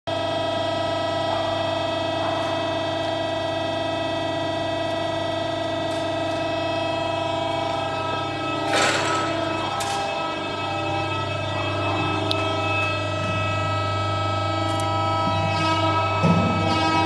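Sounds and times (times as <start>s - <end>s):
hydraulic pump hum and whine: 0.1s - 17.0s.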